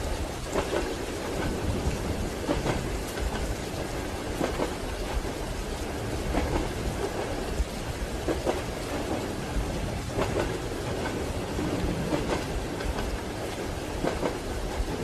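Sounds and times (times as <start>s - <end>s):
railway carriage rumble: 0.0s - 15.0s
rain hissing: 0.0s - 15.0s
train wheels clacking over rail joints: 0.0s - 15.0s.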